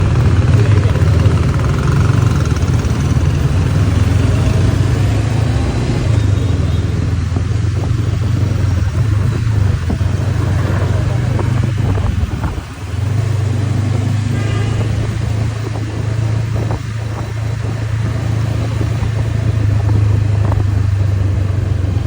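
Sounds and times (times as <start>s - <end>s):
city traffic hum: 0.0s - 22.0s
motorcycle engine running: 0.0s - 22.0s.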